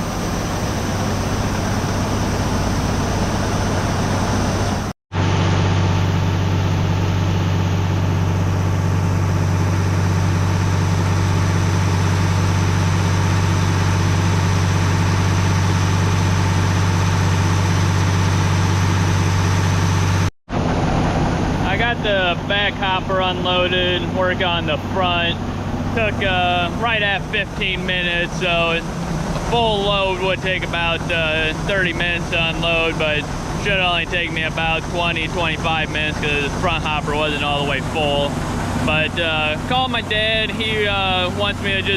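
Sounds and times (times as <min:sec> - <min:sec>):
machinery humming: 0:00.0 - 0:41.9.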